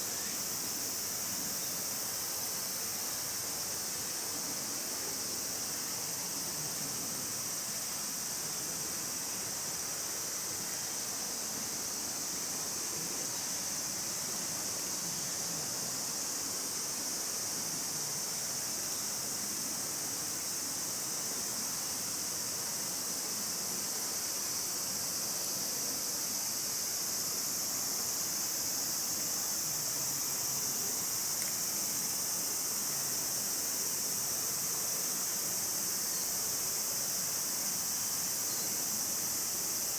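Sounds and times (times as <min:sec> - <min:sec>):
low hiss: 0:00.0 - 0:39.9.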